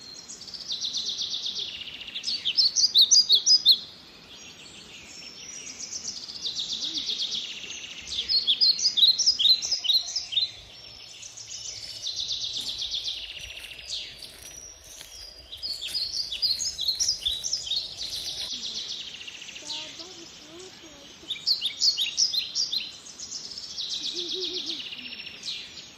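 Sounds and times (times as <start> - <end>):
songbirds singing: 0.0 - 25.9.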